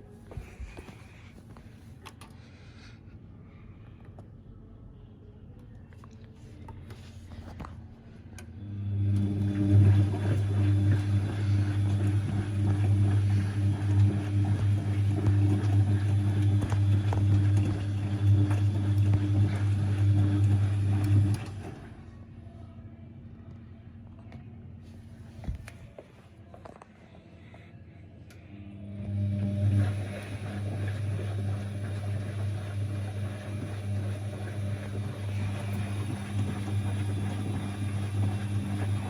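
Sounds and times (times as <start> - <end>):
washing machine mains hum: 0.0 - 39.0.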